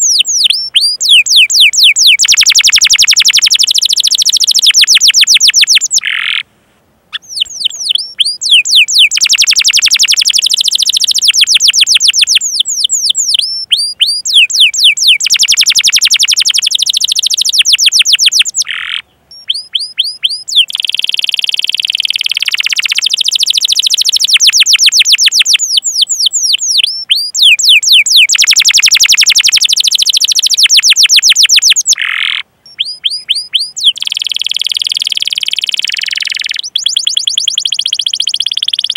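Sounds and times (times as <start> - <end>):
canary singing trills: 0.0 - 6.4, 7.1 - 38.9.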